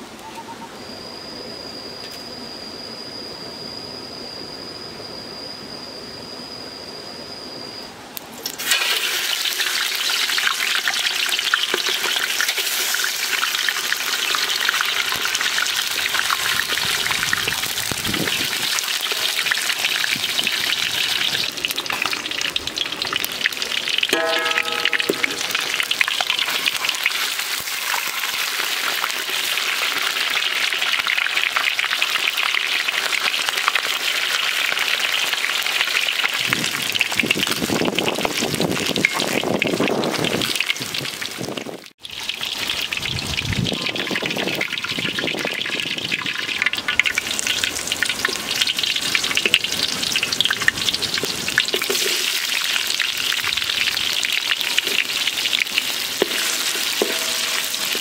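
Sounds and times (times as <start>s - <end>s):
hot oil sizzling in a wok: 8.2s - 58.0s.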